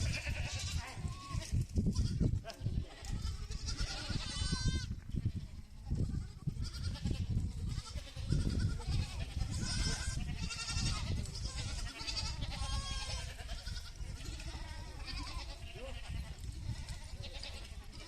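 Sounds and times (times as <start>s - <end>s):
goats bleating: 0.0s - 18.0s.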